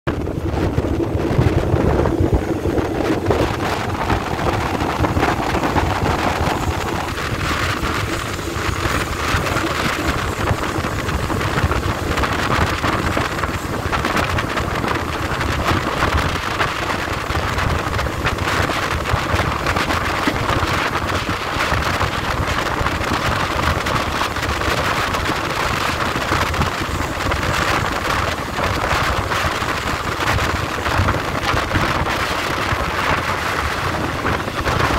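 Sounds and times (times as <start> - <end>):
wind buffeting microphone: 0.0 - 34.9
train wheels rumbling on rail: 0.1 - 34.9.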